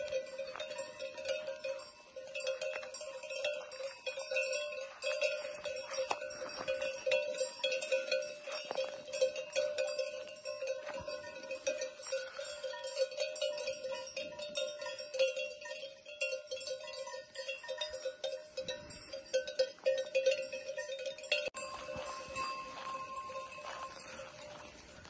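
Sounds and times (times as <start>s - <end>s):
sheep bells clanging: 0.0s - 25.0s.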